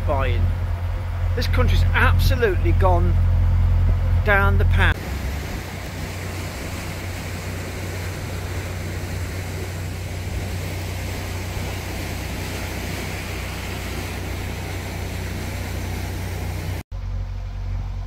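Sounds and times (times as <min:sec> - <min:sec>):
even rushing noise: 0:00.0 - 0:16.8
diesel engine idling: 0:00.0 - 0:18.0.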